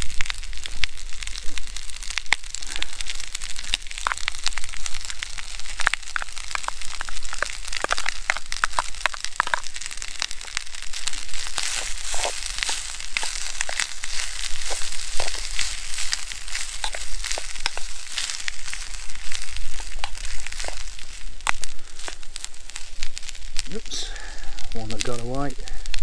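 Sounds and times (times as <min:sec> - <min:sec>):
food sizzling in metal tin: 0:00.0 - 0:26.0
wood fire crackling: 0:00.0 - 0:26.0.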